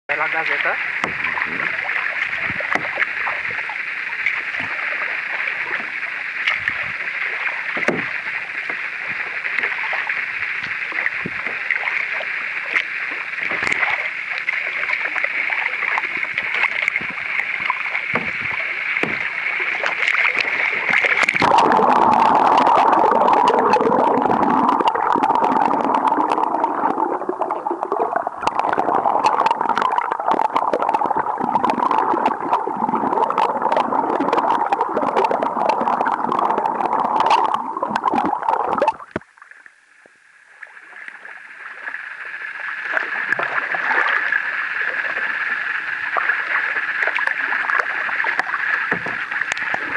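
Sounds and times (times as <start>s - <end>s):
paddle water splashing: 0.1s - 39.8s, 40.6s - 49.9s
underwater bubbling and crackling: 0.1s - 49.9s.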